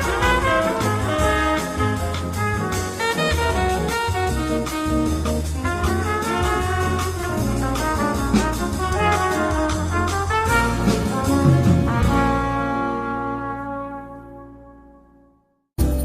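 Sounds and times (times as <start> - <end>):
jazz music with brass and bass: 0.0 - 16.0.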